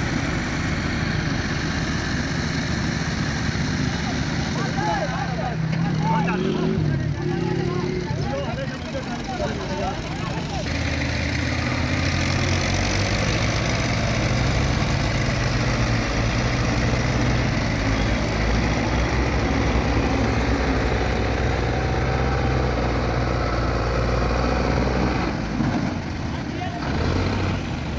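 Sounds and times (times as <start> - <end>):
tractor diesel engine under load: 0.0 - 27.9.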